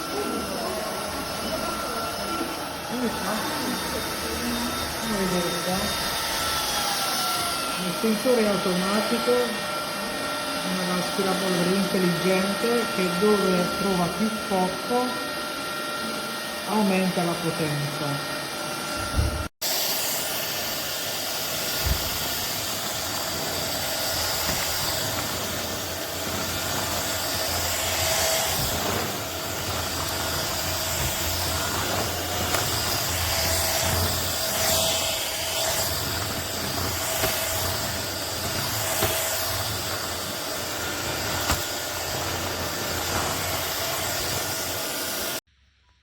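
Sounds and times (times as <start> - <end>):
stick vacuum running: 0.0 - 45.5.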